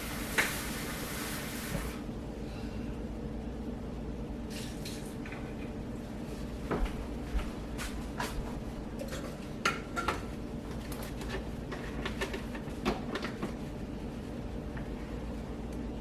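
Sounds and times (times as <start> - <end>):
steady low hum: 1.9 - 16.0.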